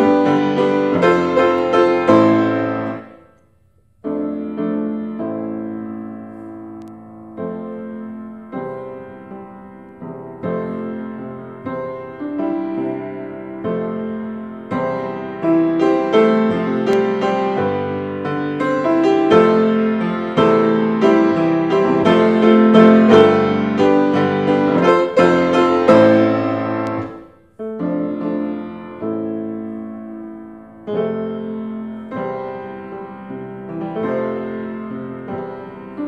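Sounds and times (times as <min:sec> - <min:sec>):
grand piano chords: 0:00.0 - 0:36.0.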